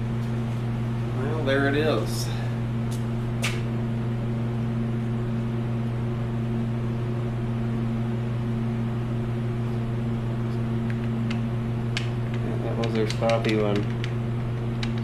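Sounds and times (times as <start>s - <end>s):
low electrical machine hum: 0.0s - 15.0s.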